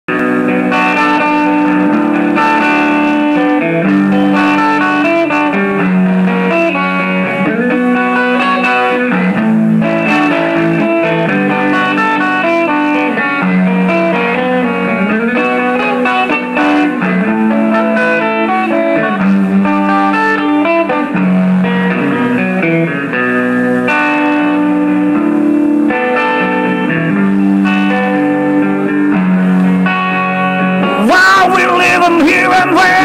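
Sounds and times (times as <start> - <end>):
electric guitar melody: 0.1 - 33.0.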